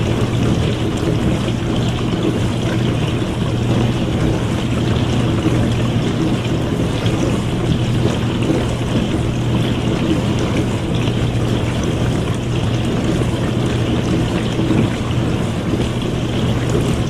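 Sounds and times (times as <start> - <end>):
low motor hum: 0.0 - 17.0
water spraying in dishwasher: 0.0 - 17.0.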